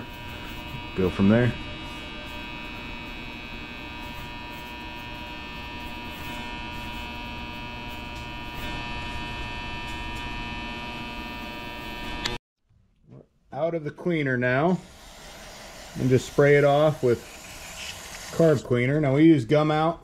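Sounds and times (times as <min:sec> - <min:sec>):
ultrasonic cleaner humming: 0:00.0 - 0:12.4, 0:14.4 - 0:18.8.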